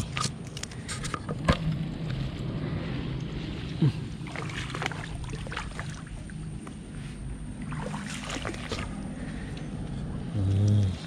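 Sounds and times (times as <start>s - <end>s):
rustling and splashing water: 0.0s - 9.6s
steady low hum: 0.0s - 11.0s.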